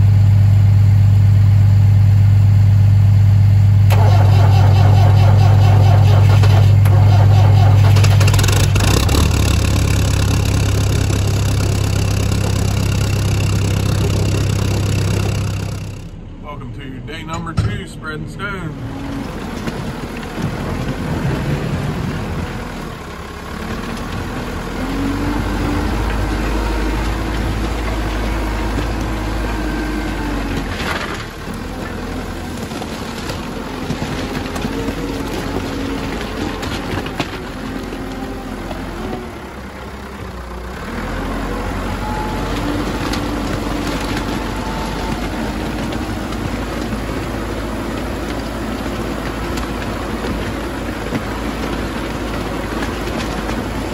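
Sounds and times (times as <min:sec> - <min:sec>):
diesel engine running: 0:00.0 - 0:53.9
tyres driving over crushed stone: 0:04.3 - 0:16.0, 0:19.1 - 0:39.4, 0:40.8 - 0:53.9.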